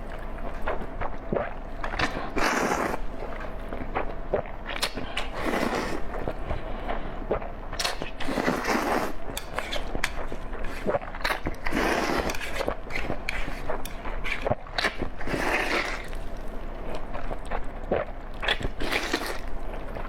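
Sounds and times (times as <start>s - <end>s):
person chewing with mouth clicks: 0.0s - 20.0s.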